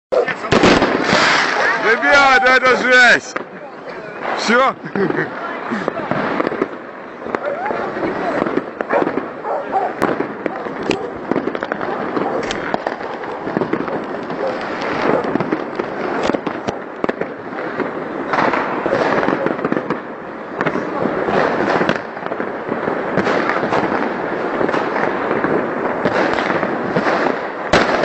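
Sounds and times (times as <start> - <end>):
fireworks crackling and banging: 0.1 - 28.0.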